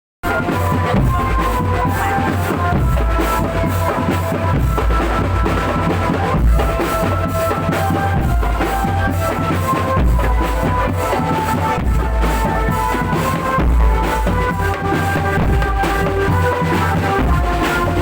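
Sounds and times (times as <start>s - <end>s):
drum band music: 0.2s - 18.0s.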